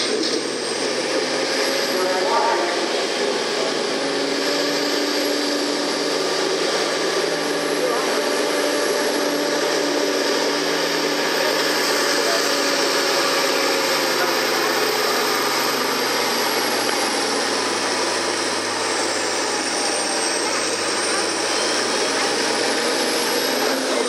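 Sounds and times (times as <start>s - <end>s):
tractor engine under full load: 0.0s - 24.0s.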